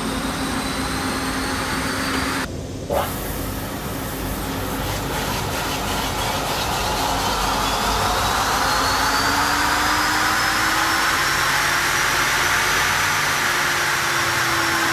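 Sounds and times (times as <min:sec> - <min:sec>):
machine whine rising in pitch: 0:00.0 - 0:14.9.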